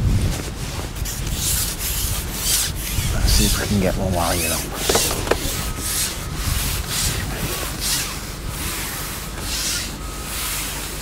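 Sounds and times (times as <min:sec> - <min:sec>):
rubbing and rustling on microphone: 0:00.0 - 0:09.1.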